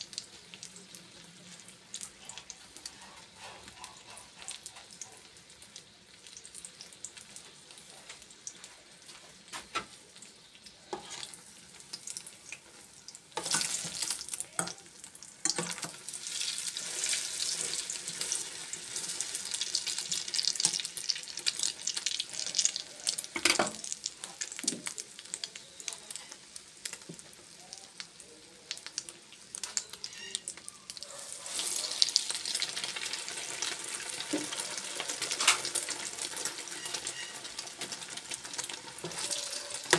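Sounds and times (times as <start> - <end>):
chiles sizzling in hot oil: 0.0 - 39.9.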